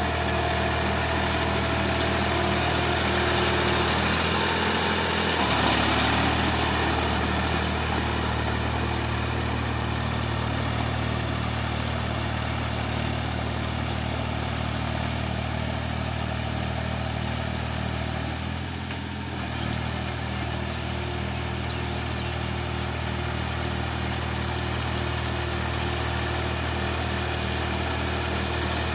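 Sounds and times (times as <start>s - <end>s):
tractor diesel engine pulsing: 0.0s - 28.9s.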